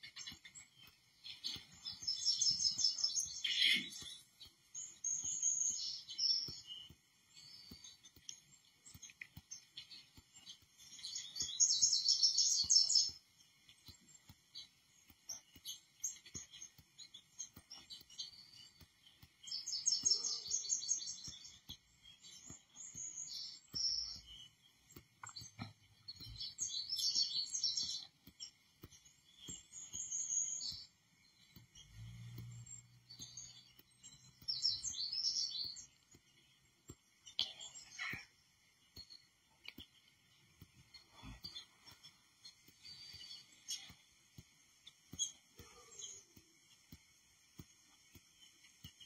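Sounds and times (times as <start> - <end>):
songbirds chirping and trilling: 0.0 - 49.0.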